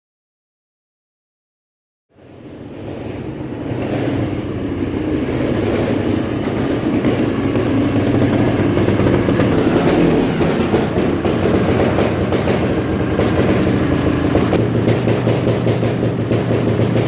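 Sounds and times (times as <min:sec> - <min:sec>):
motorcycle engine running: 0:02.2 - 0:17.0.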